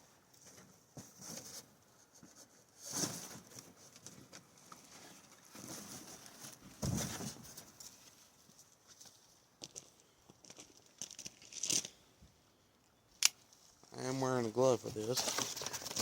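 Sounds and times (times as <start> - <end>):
rustling handling noises: 0.3 - 11.9, 13.4 - 16.0.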